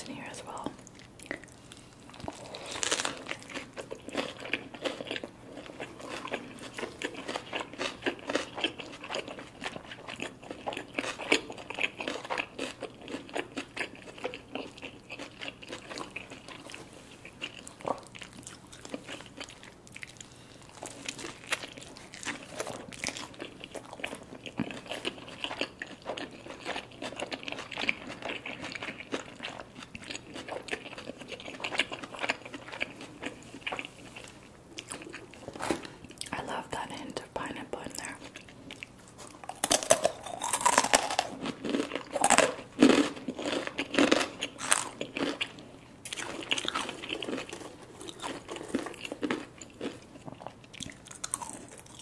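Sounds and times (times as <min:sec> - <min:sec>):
person biting and chewing food: 0:00.8 - 0:36.3, 0:38.2 - 0:52.0.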